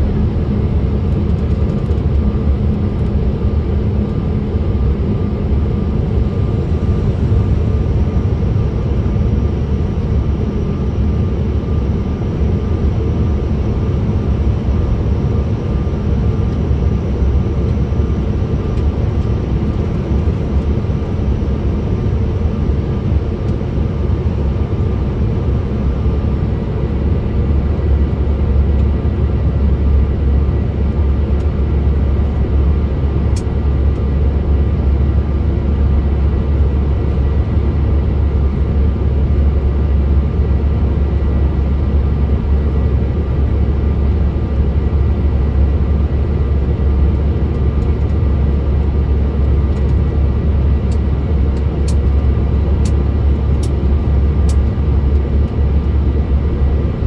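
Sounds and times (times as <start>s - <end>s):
airliner cabin roar: 0.0s - 57.0s.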